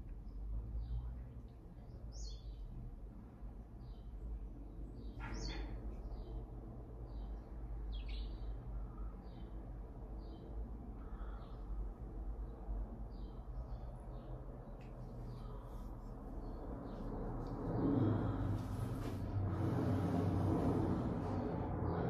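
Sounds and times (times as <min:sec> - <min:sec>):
birds chirping: 0:00.0 - 0:02.8, 0:03.6 - 0:22.0
low steady hum: 0:00.0 - 0:22.0.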